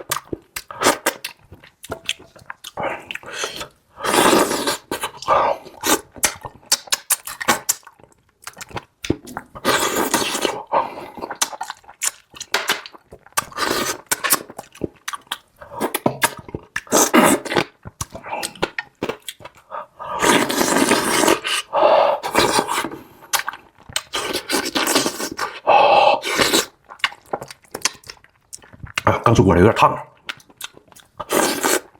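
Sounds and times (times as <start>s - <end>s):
person chewing food wetly: 0.0s - 29.3s, 30.1s - 31.9s.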